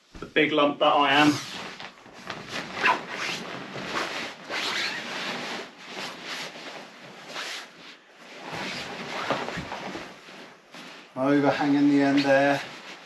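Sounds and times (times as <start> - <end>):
sleeping pad fabric rustling: 0.9 - 13.0.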